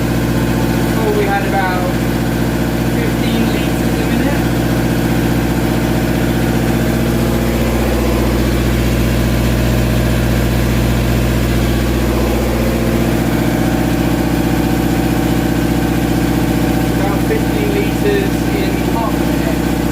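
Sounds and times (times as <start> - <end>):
boat engine running: 0.0 - 19.9.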